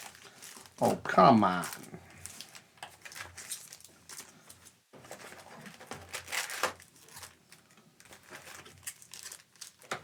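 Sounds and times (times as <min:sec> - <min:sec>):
card wrappers rustling and crinkling: 0:00.0 - 0:10.0.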